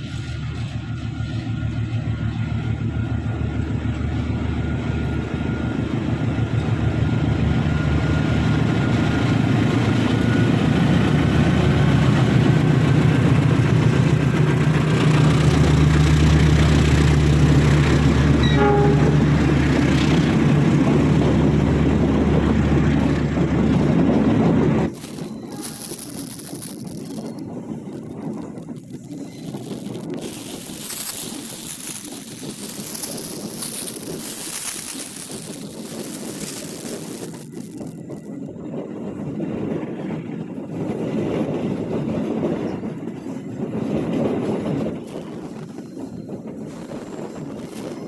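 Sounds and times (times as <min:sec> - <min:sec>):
diesel locomotive engine hum: 0:00.0 - 0:48.0
train carriages rumbling past: 0:00.0 - 0:48.0.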